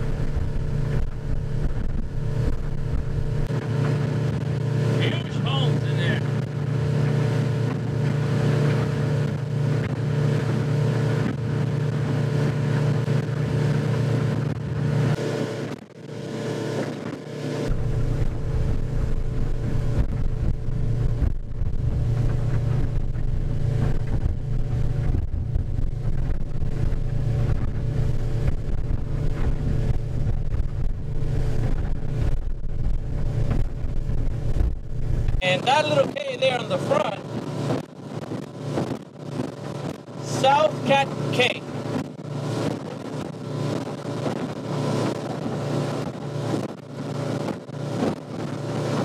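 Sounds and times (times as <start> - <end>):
boat engine running: 0.0 - 49.0.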